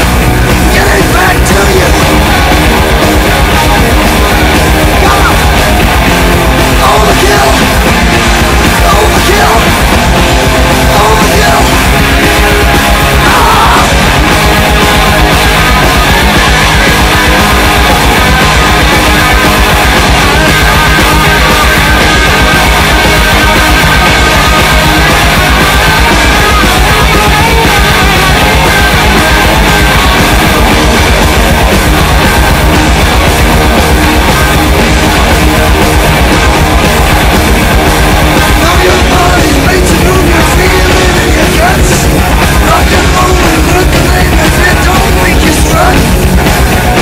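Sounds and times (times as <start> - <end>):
loud rock music: 0.0 - 47.0.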